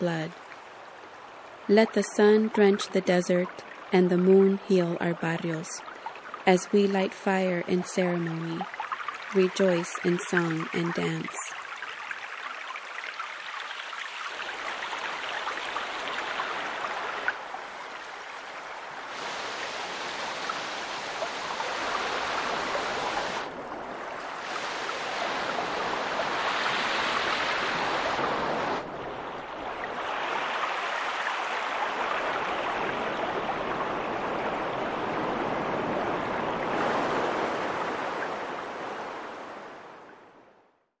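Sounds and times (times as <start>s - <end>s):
rushing water: 0.0s - 40.7s.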